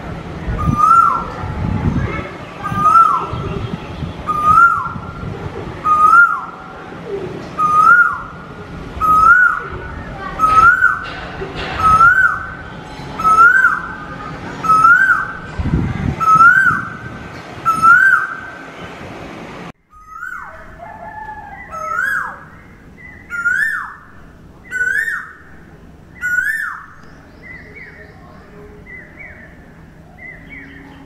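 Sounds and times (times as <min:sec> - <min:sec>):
koel calling: 0:00.0 - 0:01.5, 0:02.2 - 0:18.8, 0:20.0 - 0:31.0.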